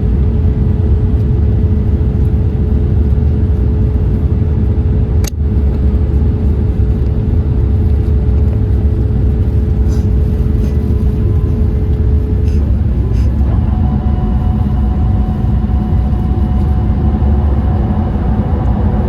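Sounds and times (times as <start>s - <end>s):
airliner cabin rumble: 0.0s - 19.0s
constant hum: 0.0s - 19.0s.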